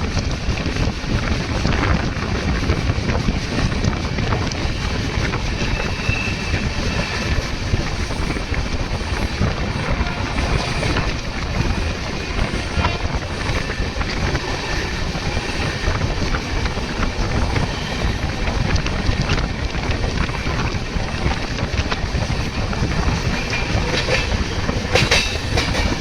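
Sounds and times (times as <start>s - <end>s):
train wheels rumbling on track: 0.0s - 26.0s
wind buffeting microphone: 0.0s - 26.0s.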